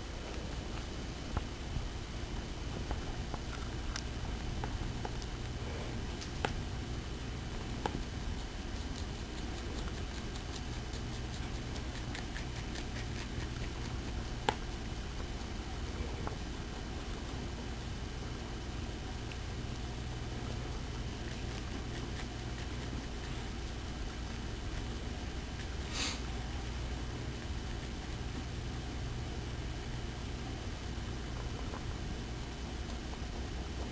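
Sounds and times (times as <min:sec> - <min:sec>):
rabbit chewing: 0:00.0 - 0:33.9
steady low hum: 0:00.0 - 0:33.9.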